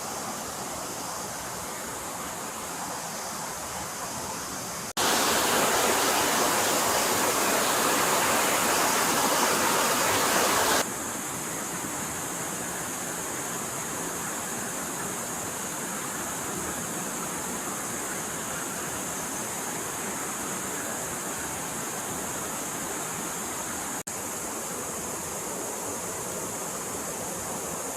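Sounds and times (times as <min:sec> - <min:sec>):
stream water rushing over rocks: 0:00.0 - 0:27.9.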